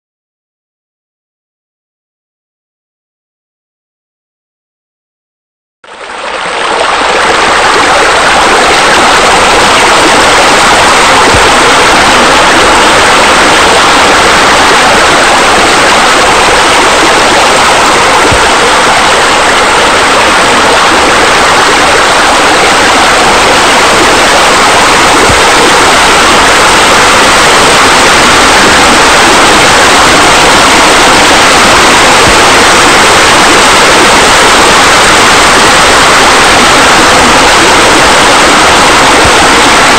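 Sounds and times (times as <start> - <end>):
rushing water: 5.8 - 39.9.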